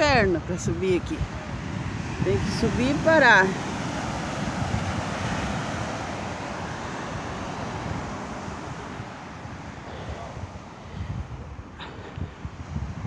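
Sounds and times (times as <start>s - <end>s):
ocean surf washing up beach: 0.0s - 13.0s
wind buffeting microphone: 0.0s - 13.0s.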